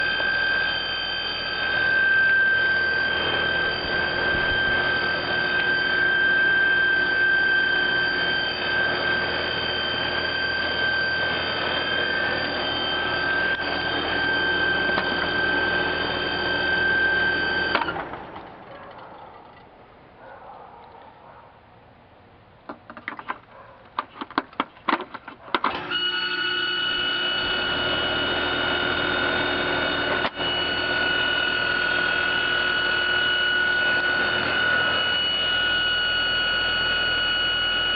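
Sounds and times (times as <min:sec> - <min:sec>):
high-pitched squeal: 0:00.0 - 0:18.4, 0:25.7 - 0:37.9
heat pump running: 0:00.0 - 0:19.0, 0:25.6 - 0:37.9.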